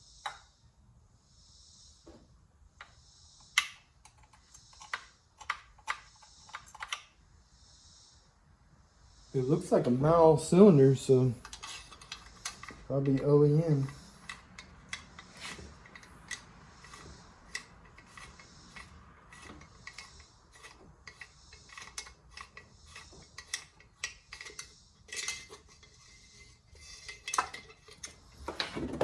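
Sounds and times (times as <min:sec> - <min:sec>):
metallic clicks of chainsaw parts: 0:02.8 - 0:07.1, 0:09.8 - 0:28.8.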